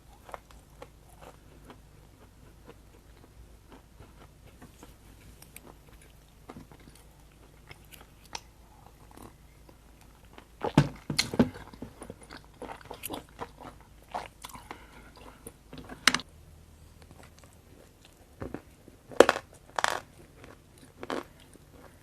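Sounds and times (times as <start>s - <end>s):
biting and crunching food: 0.0s - 16.3s, 16.9s - 22.0s.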